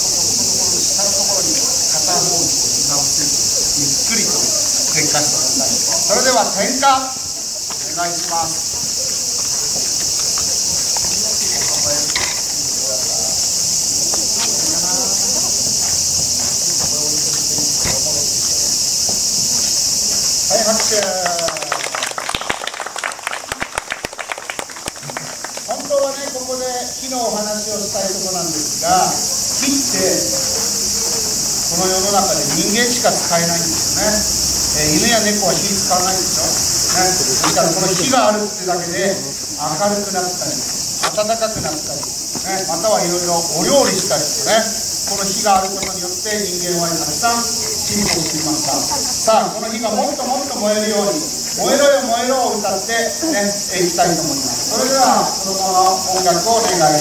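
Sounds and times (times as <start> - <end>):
insects chorus: 0.0 - 57.0
people chattering: 0.0 - 57.0.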